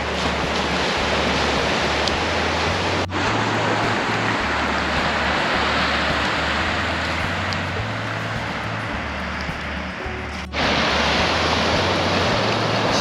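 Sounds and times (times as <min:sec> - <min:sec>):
background music bass line: 0:00.0 - 0:13.0
surf rushing on beach: 0:00.0 - 0:13.0.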